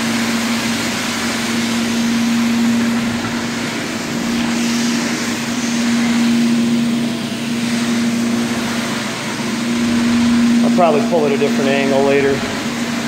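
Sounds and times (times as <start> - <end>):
carpet extraction suction rushing: 0.0 - 13.0
constant low hum: 0.0 - 13.0.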